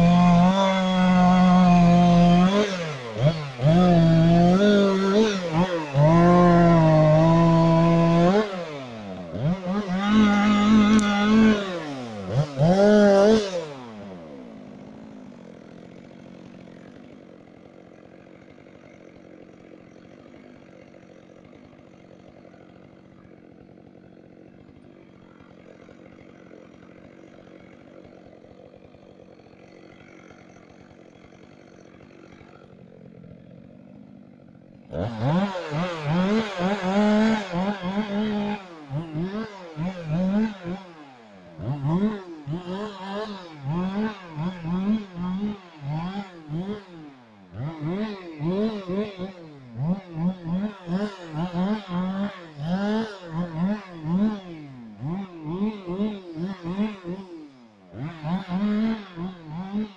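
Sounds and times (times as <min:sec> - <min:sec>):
chainsaw idling: 0:00.0 - 0:59.9
chainsaw revving: 0:00.0 - 0:59.9.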